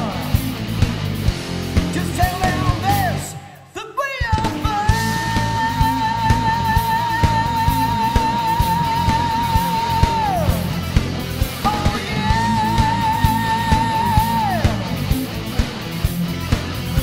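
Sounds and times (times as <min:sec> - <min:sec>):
guitars: 0:00.0 - 0:17.0
steady drum beat: 0:00.0 - 0:17.0.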